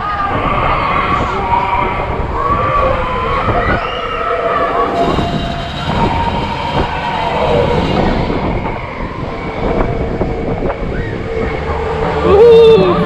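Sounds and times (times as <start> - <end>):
ride vehicle mechanical rumble: 0.0 - 13.0.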